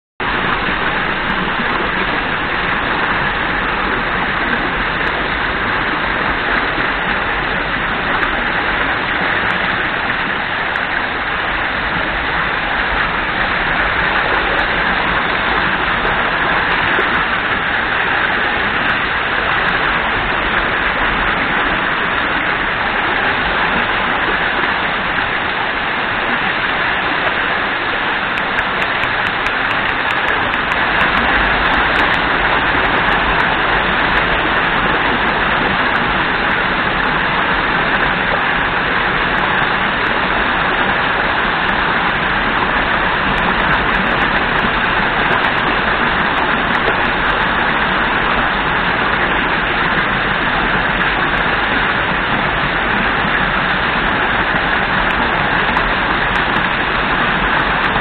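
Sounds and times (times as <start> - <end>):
water pouring over rocks: 0.2 - 58.0.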